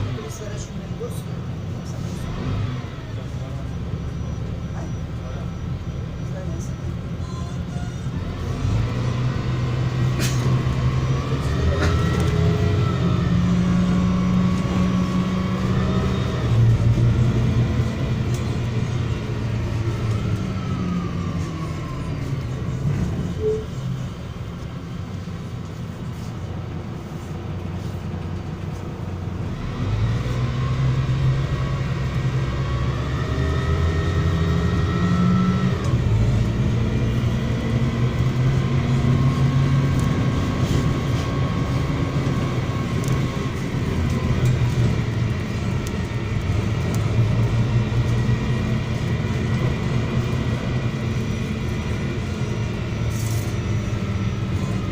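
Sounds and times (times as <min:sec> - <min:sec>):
bus diesel engine: 0:00.0 - 0:54.9.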